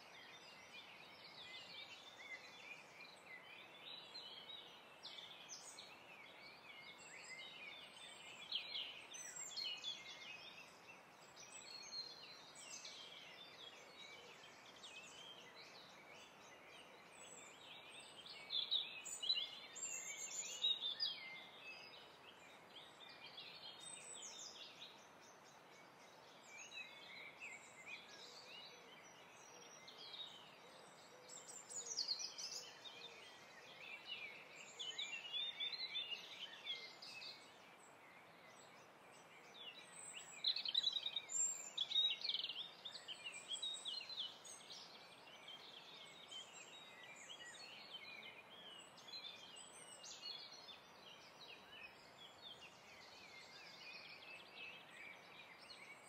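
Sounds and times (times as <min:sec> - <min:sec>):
faint steady hiss: 0:00.0 - 0:56.0
birds singing and chirping: 0:00.2 - 0:56.0.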